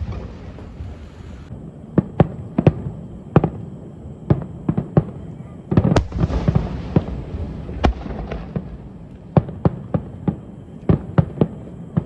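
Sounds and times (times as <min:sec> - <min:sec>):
aerial fireworks bursting: 0:00.0 - 0:12.0
crackling rumble: 0:00.0 - 0:12.0.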